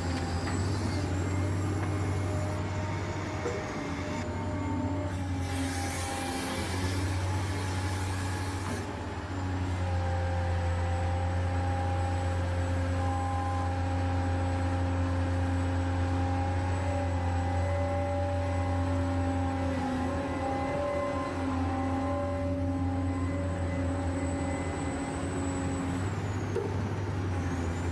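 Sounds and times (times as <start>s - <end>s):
hydraulic pump humming and whining: 0.0s - 27.9s.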